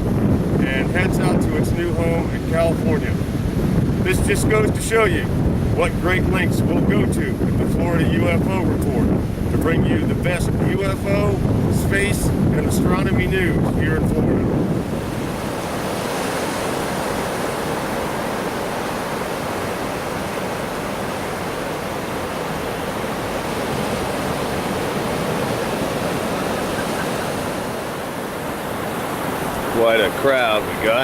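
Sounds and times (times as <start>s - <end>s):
ocean surf washing on beach: 0.0s - 31.0s.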